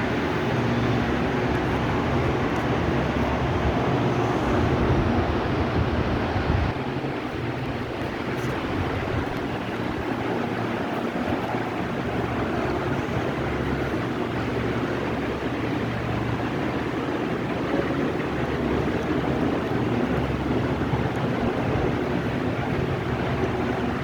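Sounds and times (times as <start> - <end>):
ceiling fan rushing air: 0.0 - 24.0
low motor hum: 0.0 - 24.0.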